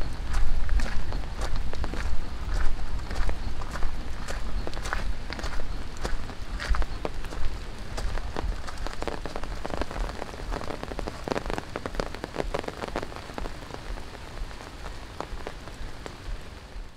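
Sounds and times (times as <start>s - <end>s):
heavy rain hissing: 0.0s - 16.9s
raindrops tapping: 0.0s - 16.9s.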